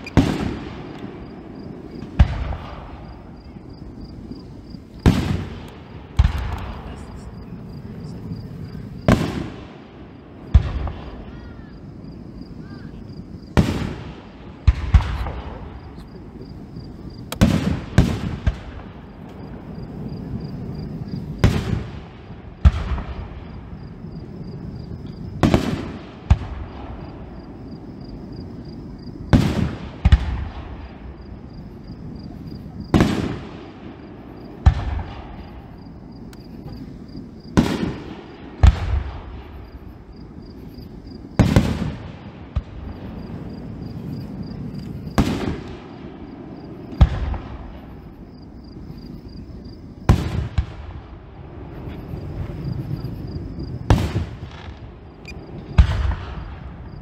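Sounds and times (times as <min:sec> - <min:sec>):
fireworks bursting with echo: 0:00.0 - 0:57.0.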